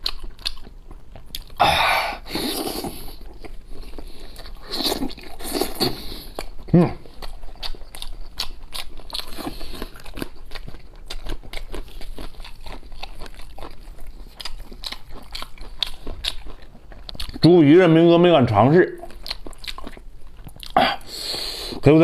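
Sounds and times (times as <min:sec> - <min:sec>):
person chewing: 0:00.0 - 0:17.5, 0:18.9 - 0:21.8.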